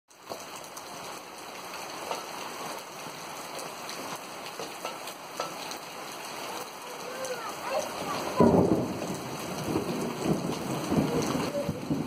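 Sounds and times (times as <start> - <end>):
rain on concrete roof: 0.1 - 12.0.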